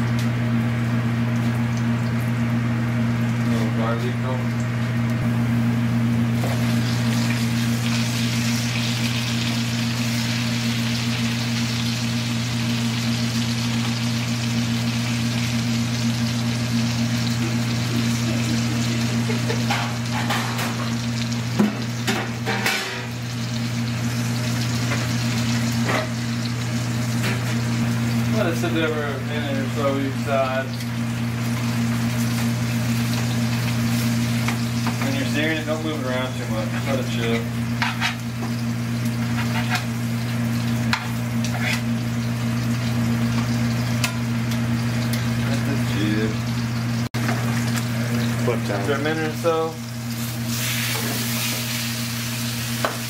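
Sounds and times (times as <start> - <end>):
meat sizzling in frying pan: 4.7 - 53.0.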